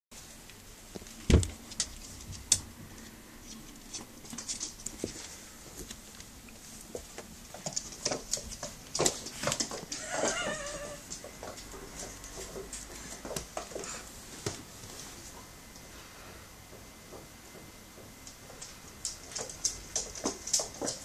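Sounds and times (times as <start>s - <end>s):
paws pattering on hard floor: 0.9s - 21.0s.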